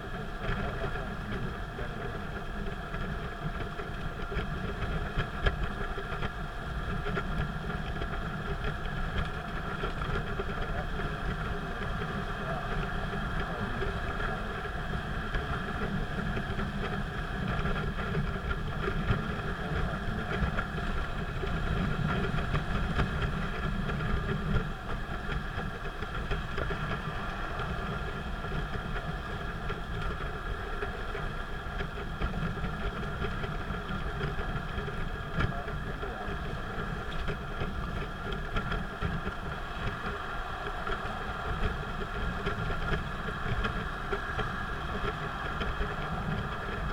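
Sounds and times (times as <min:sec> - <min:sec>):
car engine and road noise: 0:00.0 - 0:46.9
steady hum: 0:00.0 - 0:46.9.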